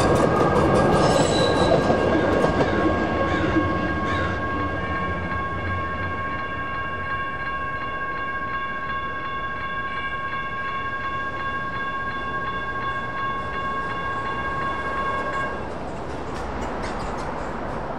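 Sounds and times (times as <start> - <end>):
railroad crossing bell ringing: 0.0 - 17.9.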